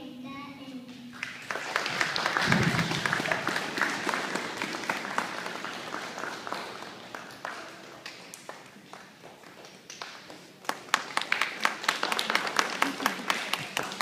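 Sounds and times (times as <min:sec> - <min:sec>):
audience applauding: 0:01.2 - 0:14.0.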